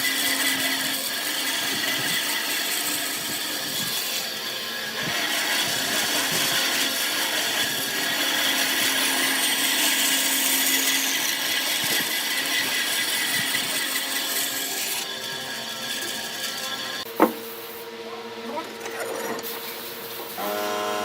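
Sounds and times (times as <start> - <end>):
power tool working wood: 0.0 - 17.6, 18.4 - 21.0.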